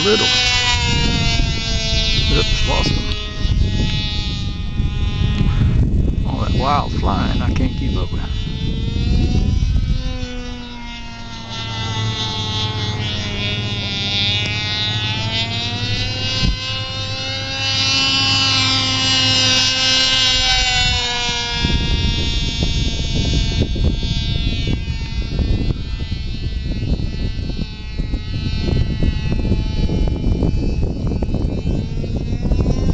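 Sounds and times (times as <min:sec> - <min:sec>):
low rumbling: 0:00.0 - 0:32.9
model plane engine: 0:00.0 - 0:32.9.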